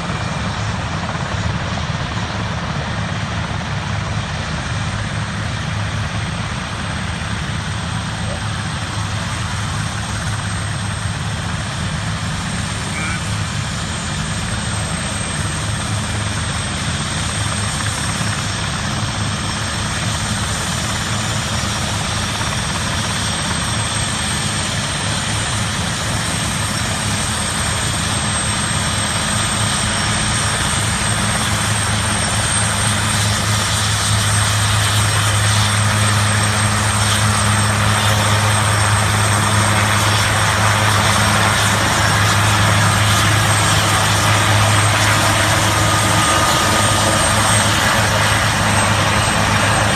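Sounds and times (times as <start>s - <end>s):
helicopter engine noise: 0.0s - 49.9s
helicopter rotor drone: 0.0s - 49.9s.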